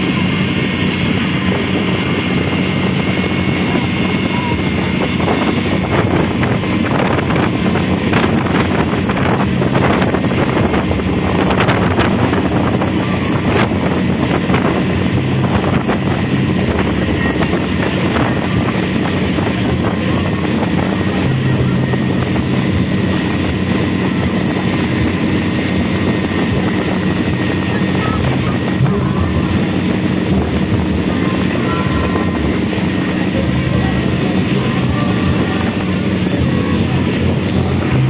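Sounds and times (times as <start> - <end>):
boat engine running: 0.0 - 38.0
wind buffeting microphone: 0.0 - 38.0.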